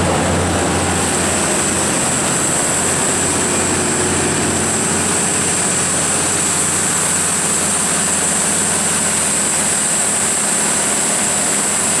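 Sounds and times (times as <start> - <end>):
diesel generator engine drone: 0.0 - 12.0.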